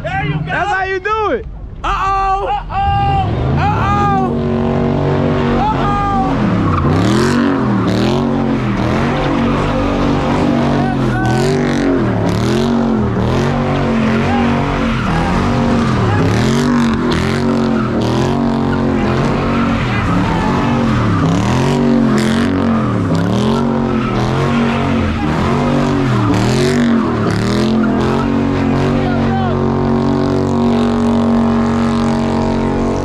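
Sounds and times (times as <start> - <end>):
tyres screeching: 0.0 - 33.0
car engine revving: 2.7 - 33.0.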